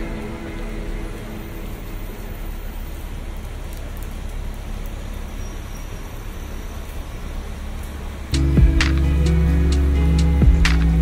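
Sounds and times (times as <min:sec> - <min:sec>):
low traffic rumble: 0:00.0 - 0:11.0
rain falling on street: 0:00.0 - 0:11.0.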